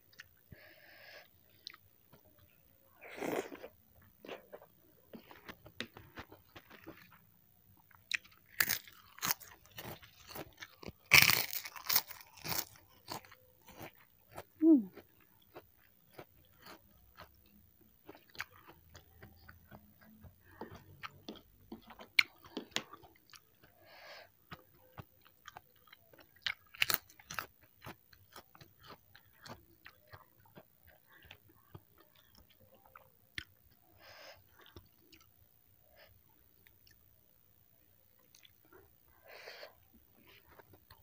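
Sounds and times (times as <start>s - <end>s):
person chewing noodles: 0.0s - 7.2s, 7.8s - 37.1s, 38.2s - 41.0s.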